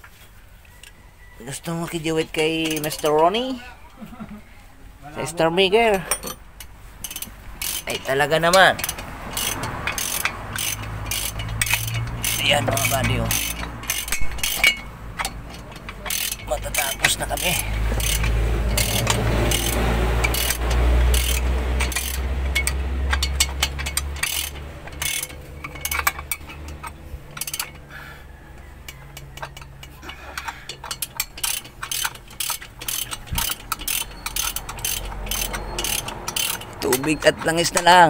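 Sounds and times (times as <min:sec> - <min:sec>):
ratchet wrench clicking: 0:02.5 - 0:03.1, 0:06.1 - 0:27.9, 0:28.5 - 0:38.0.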